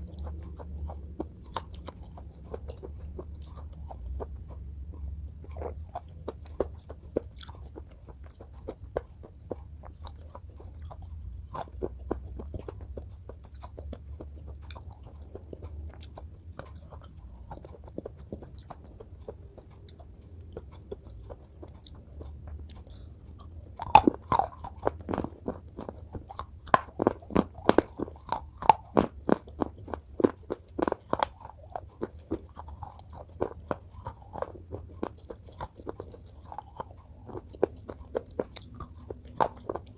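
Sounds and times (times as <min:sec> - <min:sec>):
crunching and chewing: 0:00.0 - 0:39.9
steady low hum: 0:00.0 - 0:39.9.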